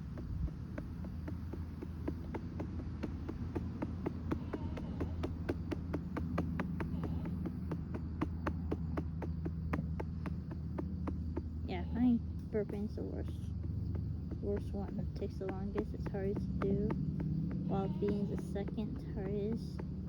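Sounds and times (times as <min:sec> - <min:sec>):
rapid patting on doll: 0:00.0 - 0:20.0.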